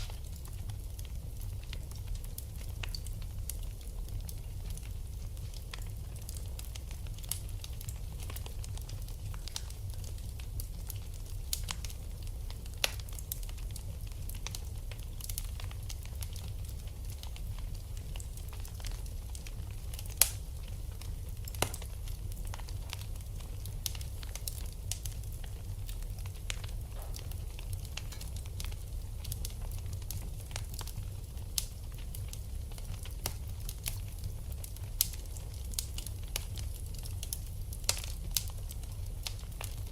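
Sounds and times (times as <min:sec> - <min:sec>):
fire low rumble: 0:00.0 - 0:39.9
wood fire crackles and pops: 0:00.0 - 0:39.9.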